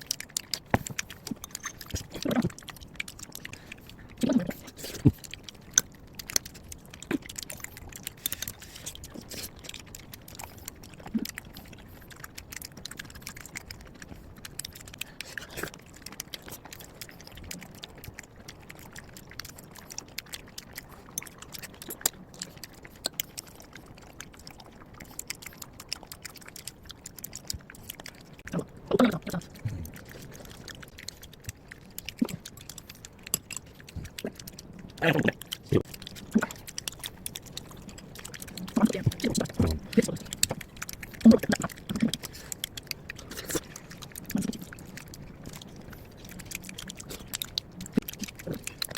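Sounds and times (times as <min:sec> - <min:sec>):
person chewing: 0:00.0 - 0:48.9.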